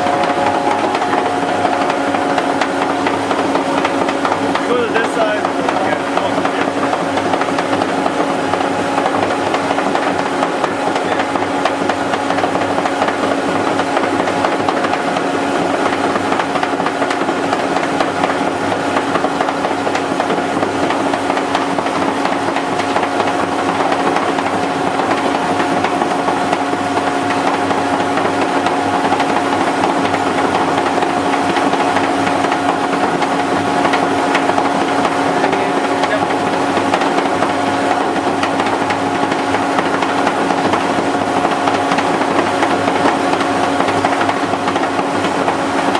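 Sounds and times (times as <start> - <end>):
compressor humming and rattling: 0.0 - 45.9.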